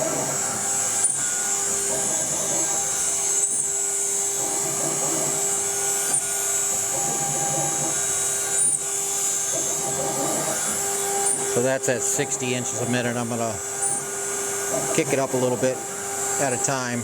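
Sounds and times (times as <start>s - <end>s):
router spindle whine: 0.0s - 17.0s
stepper motors moving: 0.0s - 17.0s.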